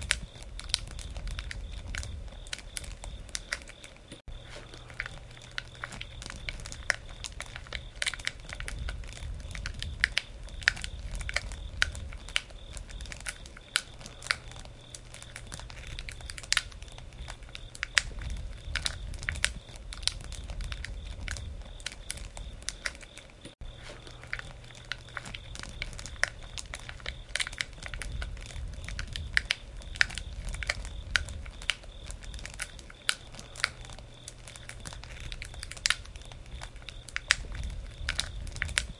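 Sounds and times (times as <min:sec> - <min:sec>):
campfire crackling and popping: 0:00.0 - 0:38.9
low rumble of fire: 0:00.0 - 0:38.9.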